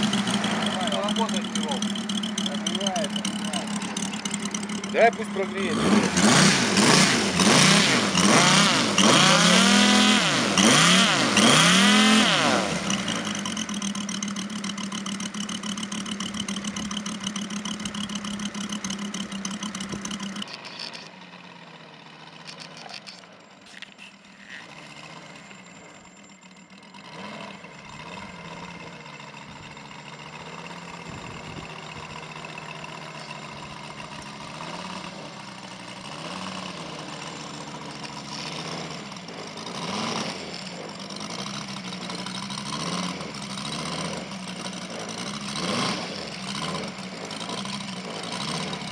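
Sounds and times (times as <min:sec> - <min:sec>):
model airplane engine revving and idling: 0:00.0 - 0:48.9.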